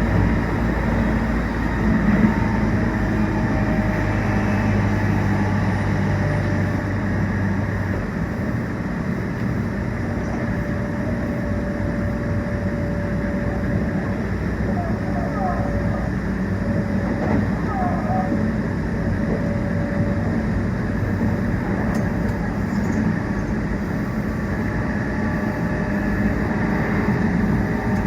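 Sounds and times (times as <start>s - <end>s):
electric train running: 0.0s - 28.0s
wheel-on-rail noise: 0.0s - 28.0s.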